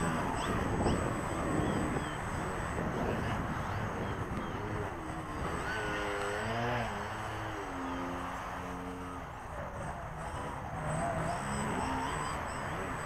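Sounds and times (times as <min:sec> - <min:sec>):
model plane motor buzzing: 0:00.0 - 0:13.0.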